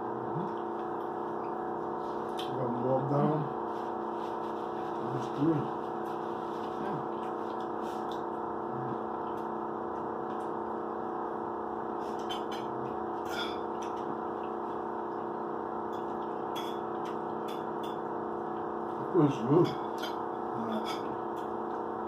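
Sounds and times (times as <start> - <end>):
room hum: 0.0 - 22.0.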